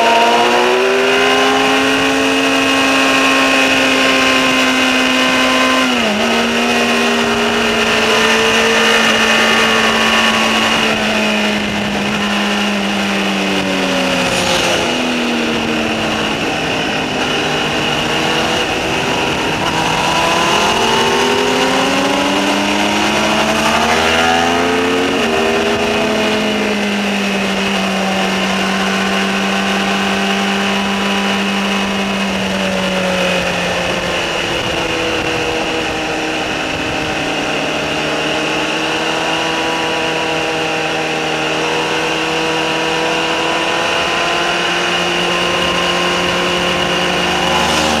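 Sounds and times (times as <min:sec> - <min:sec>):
wind rush: 0:00.0 - 0:43.0, 0:43.7 - 0:48.0
motorcycle engine revving: 0:00.0 - 0:48.0.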